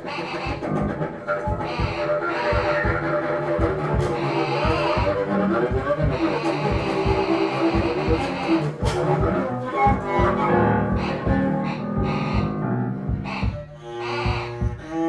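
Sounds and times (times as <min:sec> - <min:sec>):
bowed cello: 0:00.0 - 0:15.0
low knocking strokes: 0:00.0 - 0:15.0.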